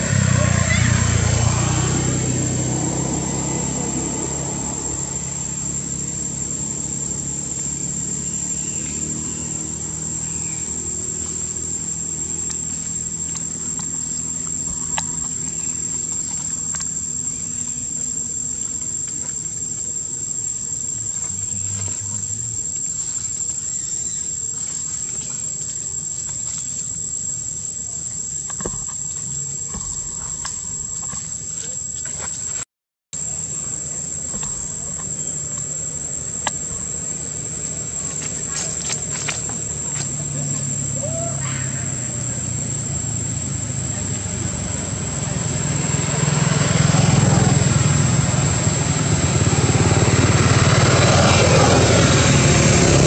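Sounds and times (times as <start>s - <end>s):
low engine hum: 0.0s - 32.6s, 33.2s - 53.0s
insects droning: 0.0s - 53.0s.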